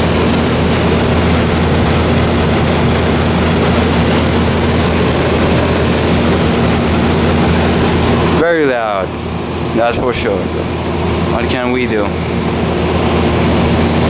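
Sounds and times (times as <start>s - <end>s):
compressor humming: 0.0s - 14.0s
fan air rushing: 0.0s - 14.0s.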